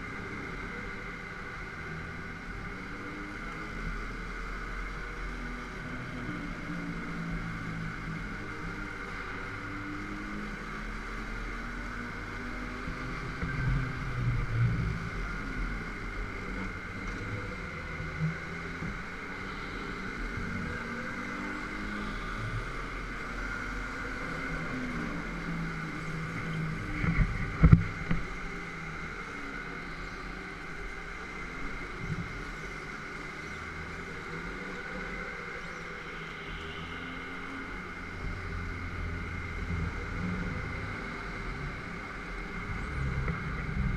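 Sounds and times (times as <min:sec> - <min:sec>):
go-kart engine drone: 0:00.0 - 0:43.9.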